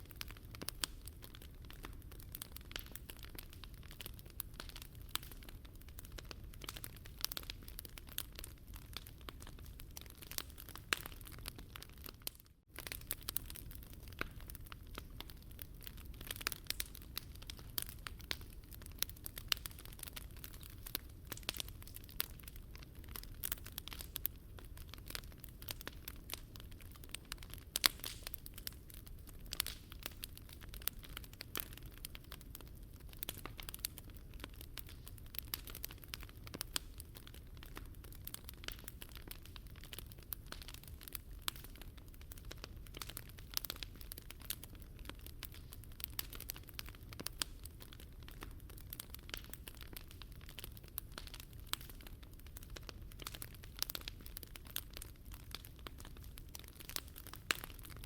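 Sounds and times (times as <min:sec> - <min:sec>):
wood fire popping and snapping: 0:00.0 - 0:58.0.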